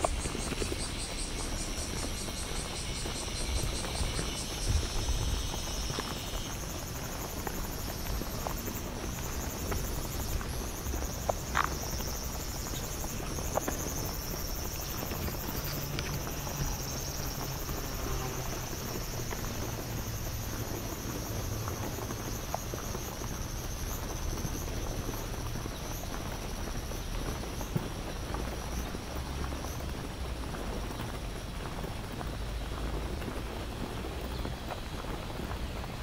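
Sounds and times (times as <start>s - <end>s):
cicadas droning: 0.0s - 36.0s.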